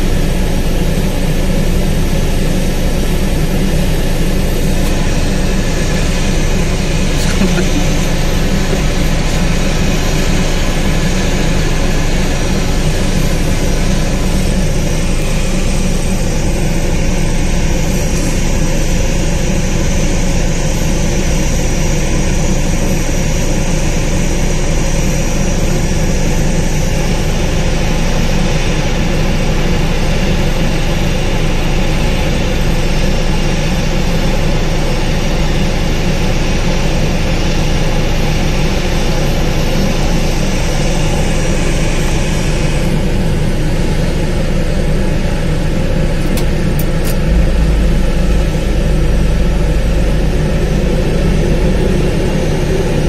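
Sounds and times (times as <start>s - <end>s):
jet engines running: 0.0s - 53.0s.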